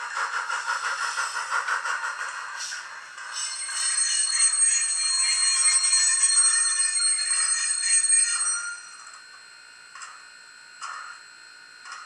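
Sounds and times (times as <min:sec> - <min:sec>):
faint model train running noise: 0:00.0 - 0:12.0.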